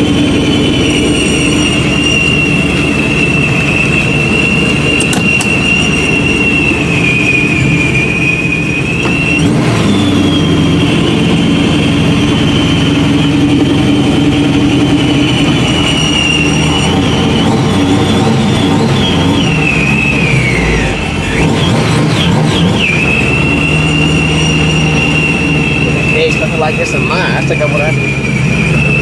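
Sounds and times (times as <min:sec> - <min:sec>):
engine rumble: 0:00.0 - 0:29.0
supercharger whine: 0:00.0 - 0:29.0.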